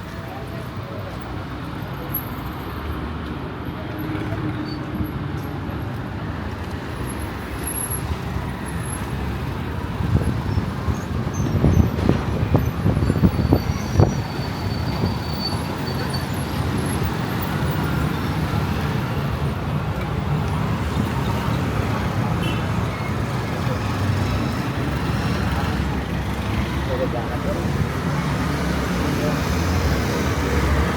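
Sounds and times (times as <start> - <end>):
traffic rumble: 0.0 - 30.9.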